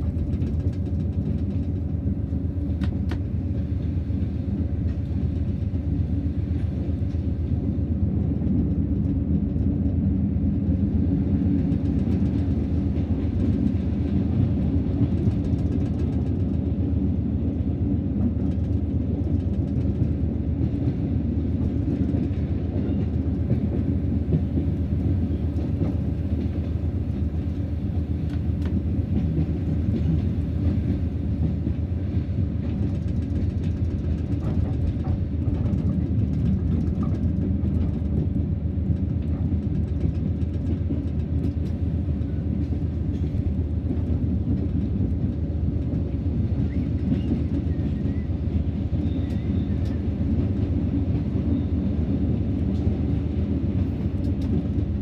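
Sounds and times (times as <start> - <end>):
diesel locomotive engine drone: 0.0 - 55.0
wheels rumbling on track: 0.0 - 55.0.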